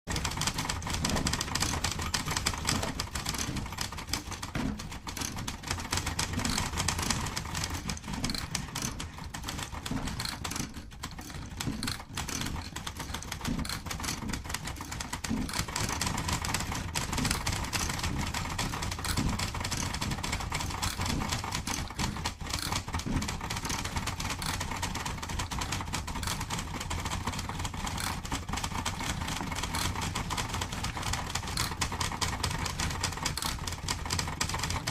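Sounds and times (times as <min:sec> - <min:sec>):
typewriter keys clacking: 0:00.1 - 0:34.9.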